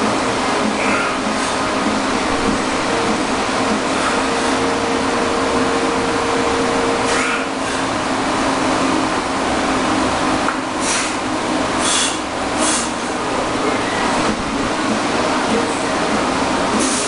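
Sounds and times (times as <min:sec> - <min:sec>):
electric fan air rushing: 0:00.0 - 0:17.0
faint motor hum: 0:00.0 - 0:17.0.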